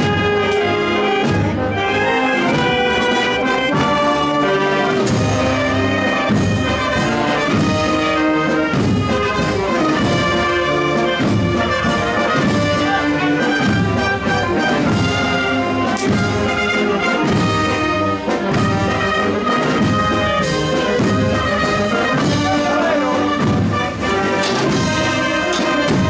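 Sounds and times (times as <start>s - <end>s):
brass band playing a march: 0.0s - 26.0s.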